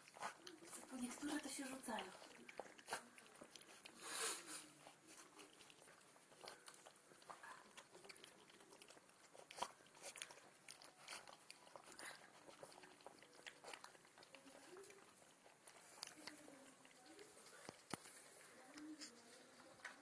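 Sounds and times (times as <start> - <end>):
puppies smacking and chewing: 0.0 - 20.0.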